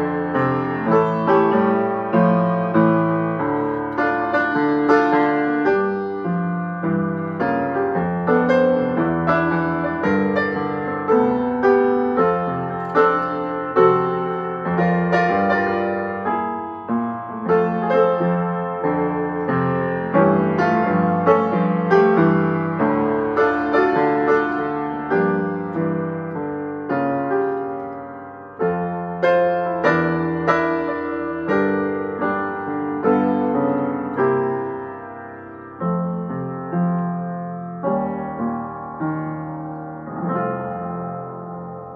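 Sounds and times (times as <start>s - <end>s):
upright piano playing: 0.0s - 41.9s.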